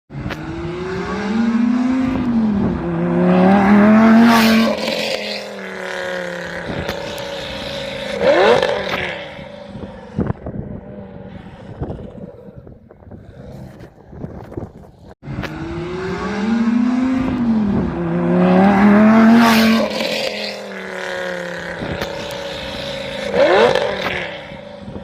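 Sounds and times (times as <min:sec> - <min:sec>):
sports car engine revving: 0:00.1 - 0:12.3, 0:15.2 - 0:25.0.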